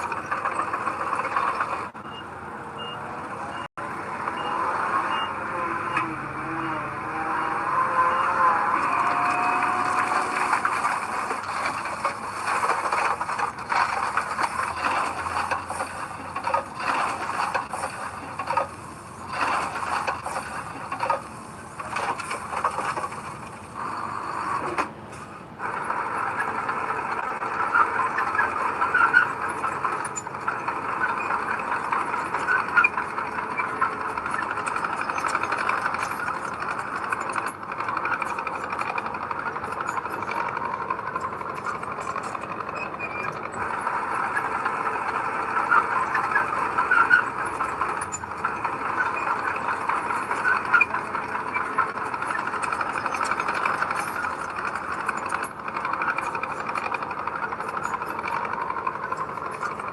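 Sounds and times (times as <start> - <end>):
heavy machinery running: 0.0 - 59.9
metal squealing and rattling: 0.0 - 59.9.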